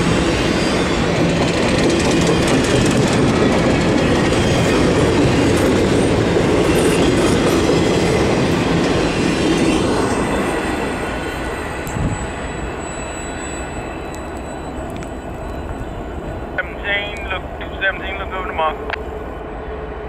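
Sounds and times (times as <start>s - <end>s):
steel wheels clattering on rail: 0.0s - 16.4s
freight train rumbling past: 0.0s - 20.0s.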